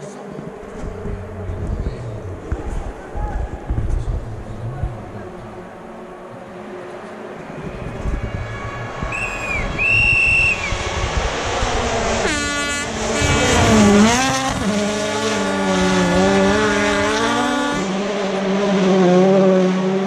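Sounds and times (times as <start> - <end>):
rally car engine passing at speed: 0.3 - 20.0.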